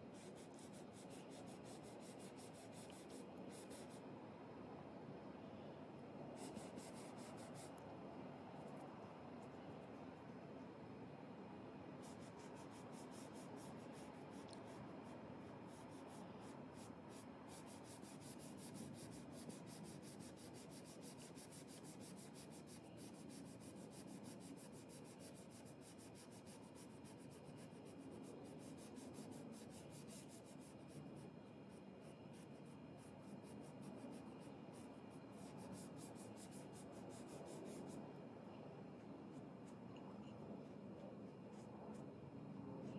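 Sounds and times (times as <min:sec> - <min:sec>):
scratchy brush strokes on canvas: 0:00.1 - 0:04.0, 0:06.3 - 0:07.8, 0:12.0 - 0:38.1, 0:39.0 - 0:42.2.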